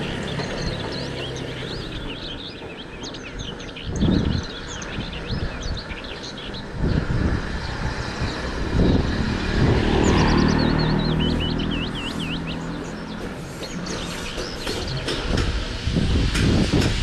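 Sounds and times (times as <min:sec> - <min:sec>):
tyres rolling on road: 0:00.0 - 0:03.9, 0:04.5 - 0:17.0
small birds chirping: 0:00.0 - 0:16.8.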